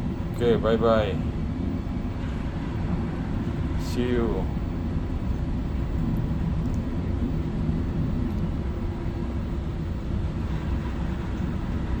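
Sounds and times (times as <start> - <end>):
faint steady hum: 0.0 - 12.0
ship rumbling in strong wind: 0.0 - 12.0.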